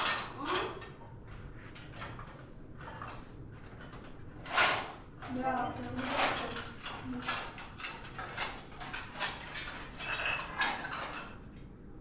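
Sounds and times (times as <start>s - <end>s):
dishes and cutlery clattering: 0.0s - 1.2s, 1.9s - 11.4s.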